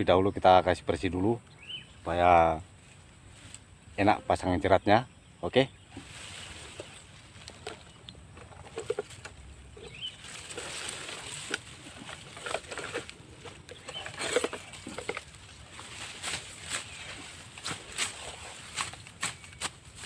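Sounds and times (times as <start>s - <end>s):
dry grass rustling and crackling: 1.5s - 4.5s, 5.8s - 20.0s.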